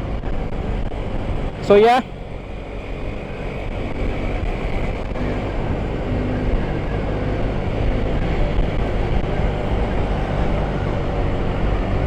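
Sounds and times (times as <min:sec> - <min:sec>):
motorcycle engine hum: 0:00.0 - 0:12.0
wind rush in helmet: 0:00.0 - 0:12.0.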